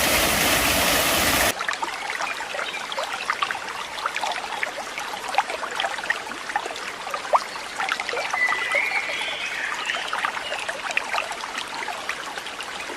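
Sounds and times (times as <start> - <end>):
water trickling and babbling: 0.0 - 12.9.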